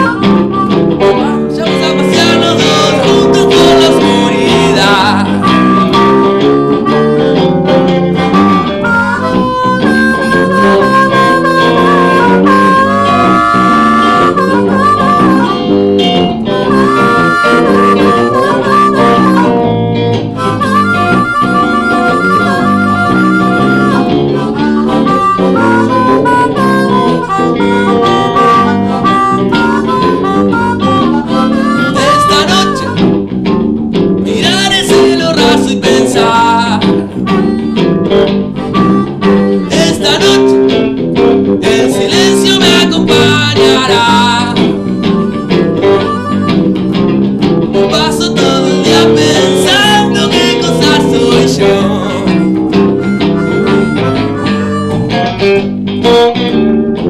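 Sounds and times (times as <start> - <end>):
blues-rock band playing: 0.0 - 57.0
harmonica solo: 0.0 - 57.0.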